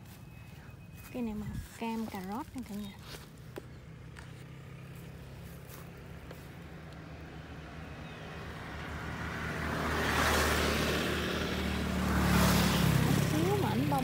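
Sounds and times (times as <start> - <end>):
motor vehicle going by: 0.0 - 14.0.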